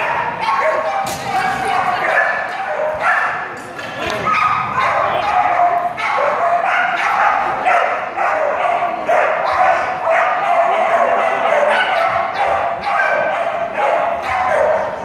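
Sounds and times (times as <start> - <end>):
dog barking: 0.0 - 3.5, 4.2 - 15.0.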